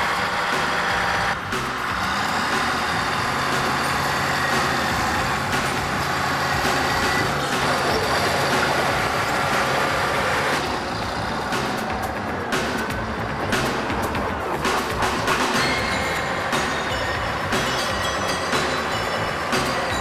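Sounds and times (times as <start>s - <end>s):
bulldozer diesel engine: 0.0s - 20.0s.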